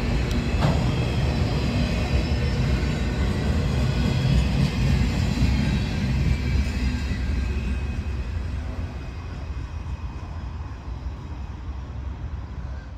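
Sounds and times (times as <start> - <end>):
freight train rumbling and clattering: 0.0 - 12.9.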